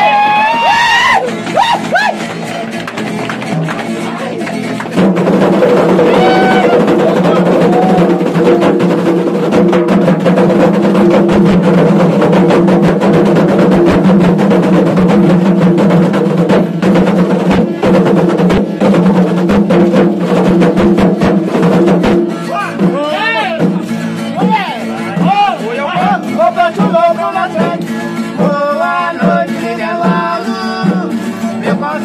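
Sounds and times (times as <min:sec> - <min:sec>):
frame drums beaten fast: 0:00.0 - 0:32.0.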